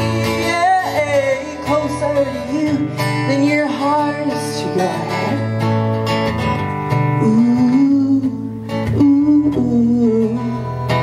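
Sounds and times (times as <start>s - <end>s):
person singing wordless melody: 0.0s - 5.5s, 7.2s - 11.0s
acoustic guitar playing: 0.0s - 11.0s.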